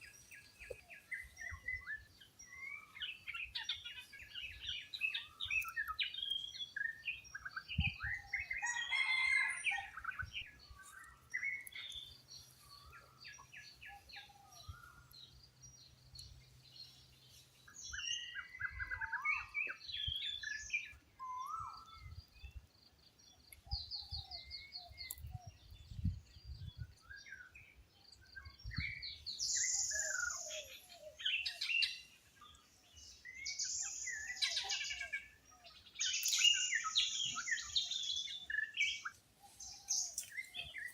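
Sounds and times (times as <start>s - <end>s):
wild birds chirping and trilling: 0.0s - 40.9s.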